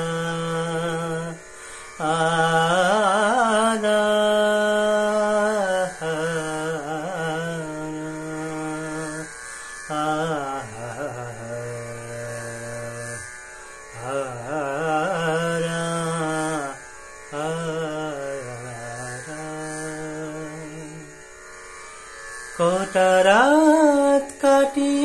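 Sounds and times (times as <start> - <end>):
man singing wordlessly: 0.0 - 9.3, 9.9 - 13.2, 13.9 - 21.1, 22.6 - 25.0.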